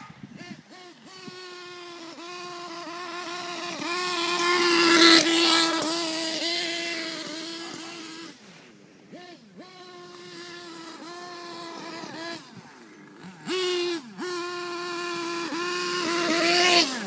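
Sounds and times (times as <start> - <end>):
small nitro engine running: 0.0 - 17.0.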